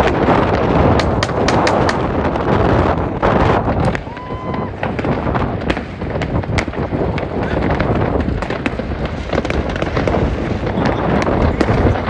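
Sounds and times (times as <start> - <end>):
fireworks bangs and crackles: 0.0 - 12.0
steady rumble: 0.0 - 12.0.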